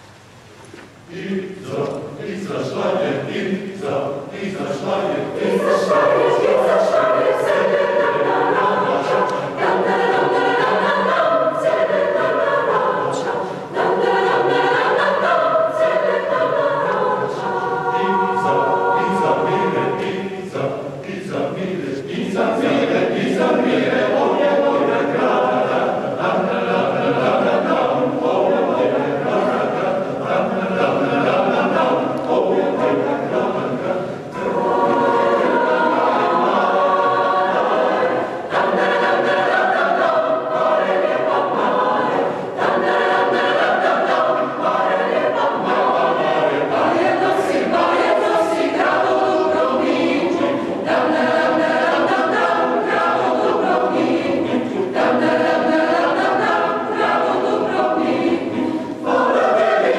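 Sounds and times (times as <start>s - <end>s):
large mixed choir singing: 1.0s - 59.9s.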